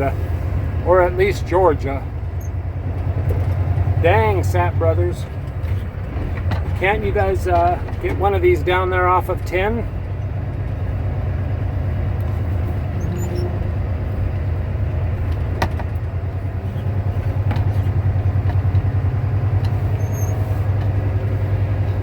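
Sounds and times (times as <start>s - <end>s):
diesel truck engine rumble: 0.0s - 22.0s.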